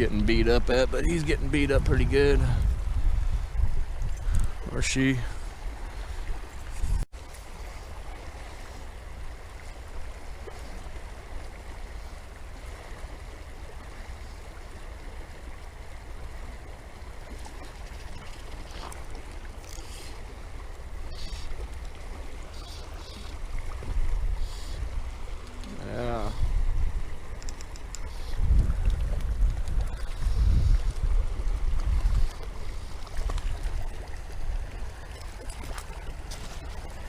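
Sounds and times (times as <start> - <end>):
river water running over riffles: 0.0 - 37.0
wind rumbling on microphone: 0.0 - 37.0.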